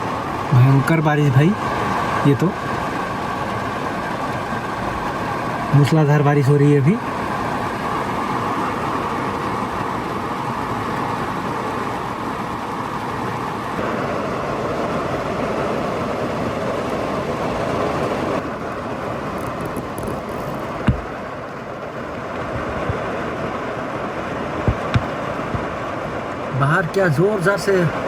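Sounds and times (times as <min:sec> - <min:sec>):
heavy rain drumming on car roof: 0:00.0 - 0:28.0.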